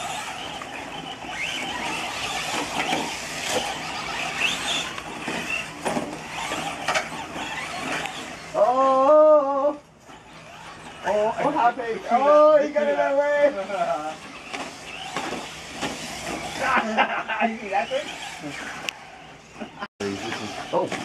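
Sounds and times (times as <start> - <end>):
rc car motors whining: 0.0 - 21.0.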